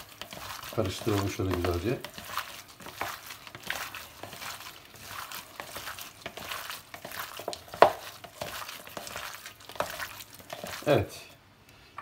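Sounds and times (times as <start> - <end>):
raw chicken squishing in bowl: 0.0 - 11.2.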